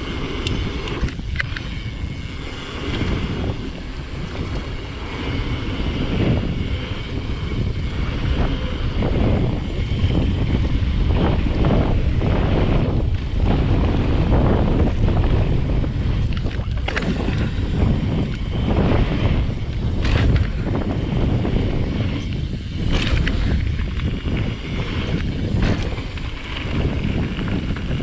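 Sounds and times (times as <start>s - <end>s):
bike tyres rolling over gravel: 0.0s - 28.0s
wind buffeting microphone: 0.0s - 28.0s.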